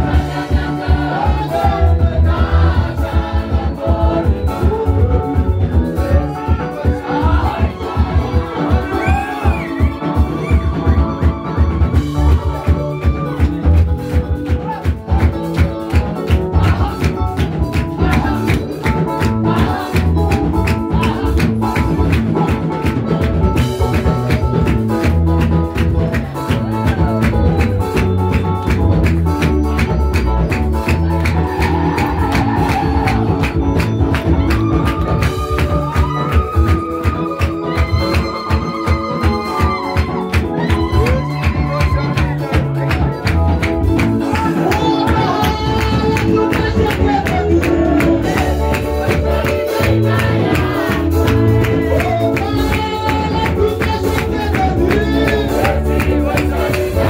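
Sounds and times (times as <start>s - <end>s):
congregation singing: 0.0s - 24.8s, 30.8s - 57.0s
singer on a microphone: 0.0s - 25.1s, 30.8s - 57.0s
heavy bass beat: 0.0s - 57.0s.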